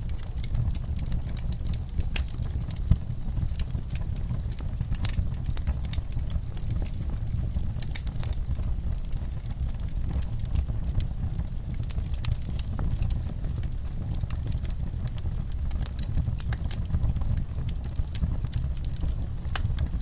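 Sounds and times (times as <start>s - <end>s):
fire crackling and popping: 0.0s - 20.0s
wood fire rumbling: 0.0s - 20.0s.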